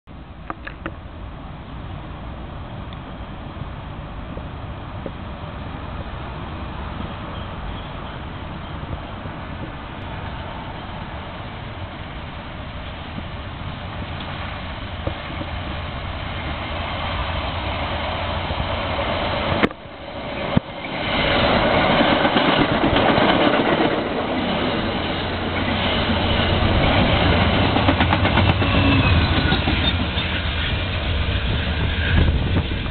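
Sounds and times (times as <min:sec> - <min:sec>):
train wheels rushing on rails: 0:00.3 - 0:32.9.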